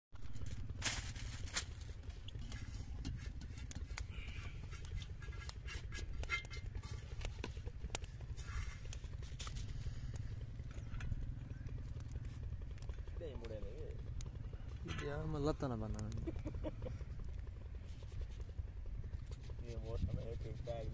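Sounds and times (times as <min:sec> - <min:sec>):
steady low rumble: 0:00.2 - 0:20.9.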